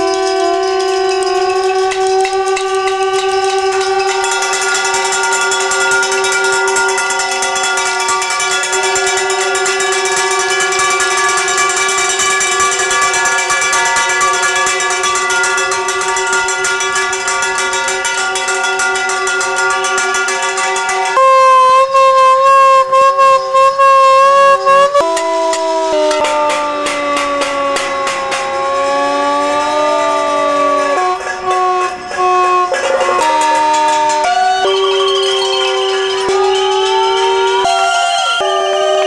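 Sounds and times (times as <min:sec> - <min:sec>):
hand-cranked siren wailing: 0:00.0 - 0:39.0.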